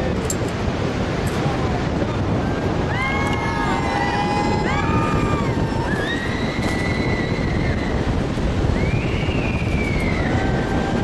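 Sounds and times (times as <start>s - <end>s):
river rushing: 0.0s - 11.0s
wind rushing: 0.0s - 11.0s.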